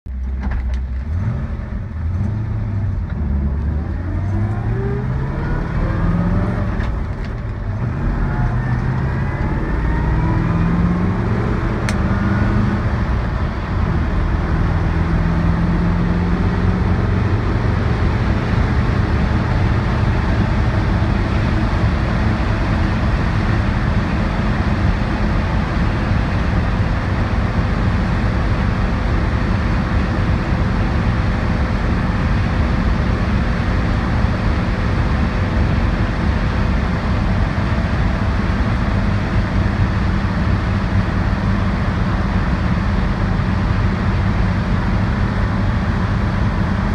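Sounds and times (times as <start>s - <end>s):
car engine accelerating: 0.1s - 46.9s
road and wind noise: 0.1s - 46.9s.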